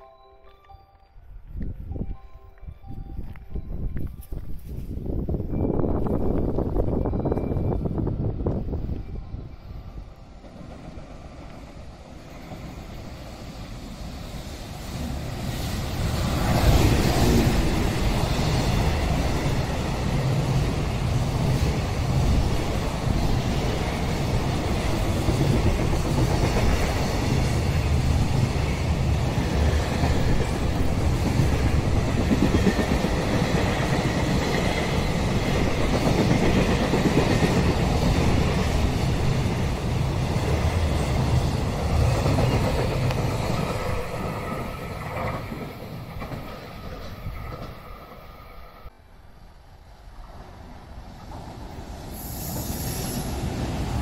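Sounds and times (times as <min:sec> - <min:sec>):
freight train wheels rumbling: 0:01.2 - 0:49.0, 0:49.6 - 0:54.0.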